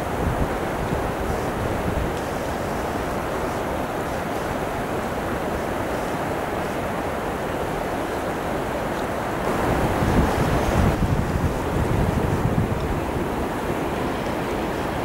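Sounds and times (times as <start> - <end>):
river current rushing: 0.0 - 15.0
wind rumbling on microphone: 0.0 - 15.0.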